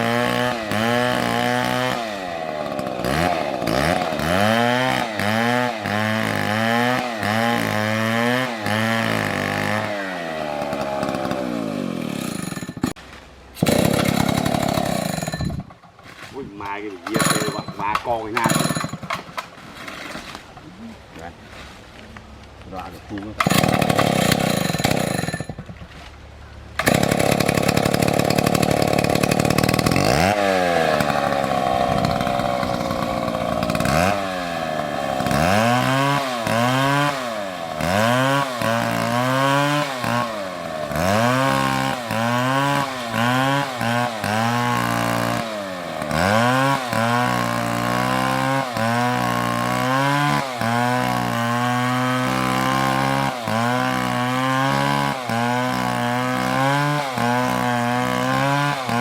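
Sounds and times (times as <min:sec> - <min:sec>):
chainsaw cutting wood: 0:00.0 - 0:13.0, 0:13.6 - 0:20.4, 0:23.2 - 0:26.1, 0:26.8 - 0:59.0.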